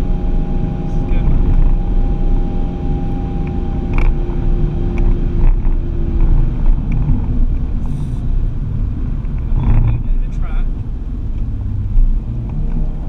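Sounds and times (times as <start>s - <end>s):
car engine under load: 0.0s - 13.0s
road and tyre rumble: 0.0s - 13.0s.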